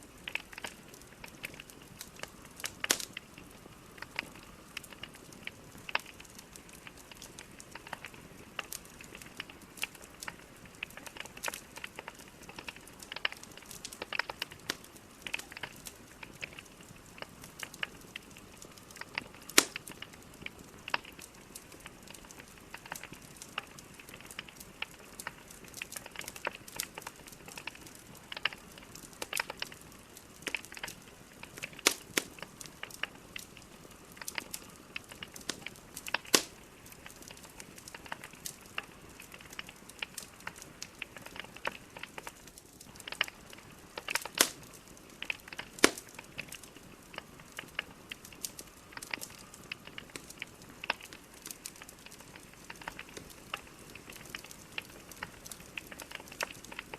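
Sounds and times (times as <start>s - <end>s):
fire low steady hiss: 0.0s - 56.9s
logs crackling and popping: 0.0s - 56.9s.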